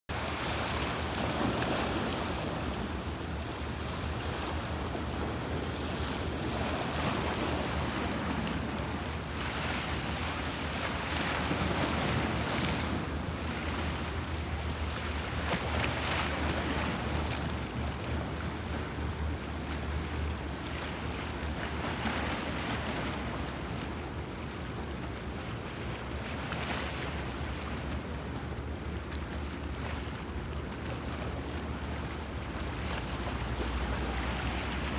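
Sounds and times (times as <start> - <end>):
sea waves splashing on shore: 0.1 - 34.9.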